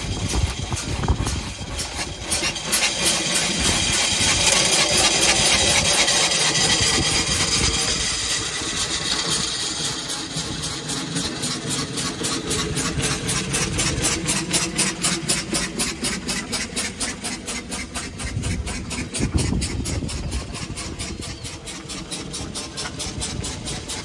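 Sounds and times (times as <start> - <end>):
single-cylinder engine chugging: 0.0 - 24.0.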